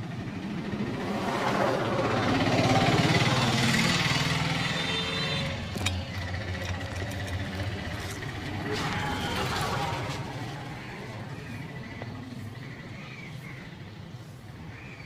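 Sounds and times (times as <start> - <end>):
vehicle passing: 0.0 - 14.7.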